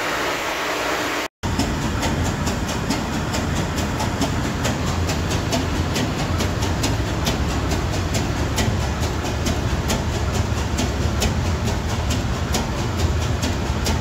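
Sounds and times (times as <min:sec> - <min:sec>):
diesel engine low drone with ticking: 0:01.4 - 0:14.0.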